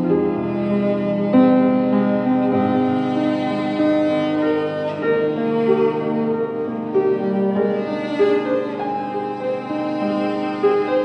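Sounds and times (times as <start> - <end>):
bowed strings music: 0.0 - 11.0.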